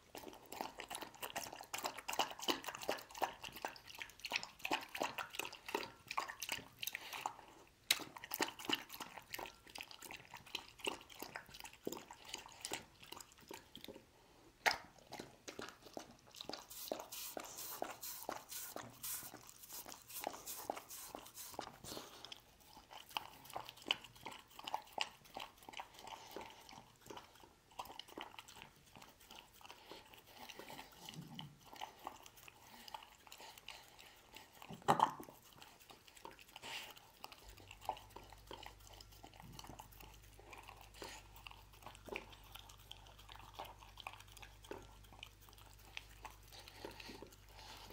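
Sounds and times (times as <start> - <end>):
dog lapping and chewing: 0.0 - 47.9.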